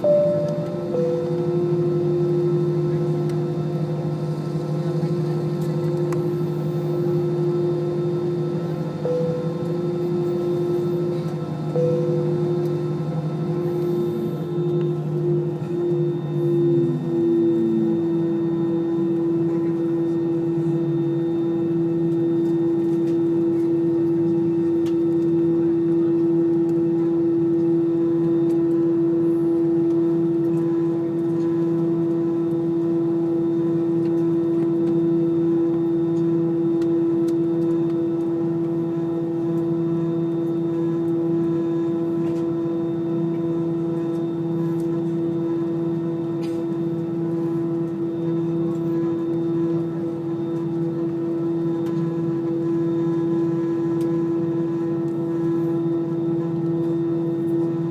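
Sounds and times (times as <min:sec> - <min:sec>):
jet engine drone in cabin: 0:00.0 - 0:57.9.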